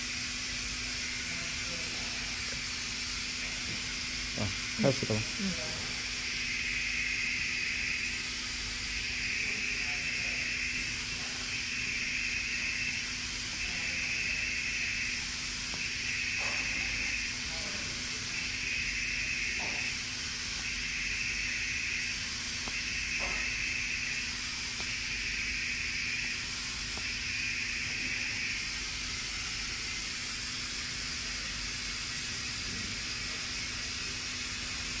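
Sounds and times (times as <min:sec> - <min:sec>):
higher pulsing hiss: 0:00.0 - 0:35.0
steady air hiss: 0:00.0 - 0:35.0.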